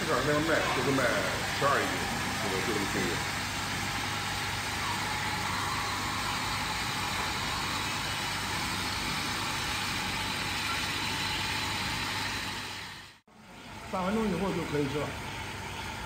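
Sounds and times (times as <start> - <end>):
steam venting hiss: 0.0 - 13.0.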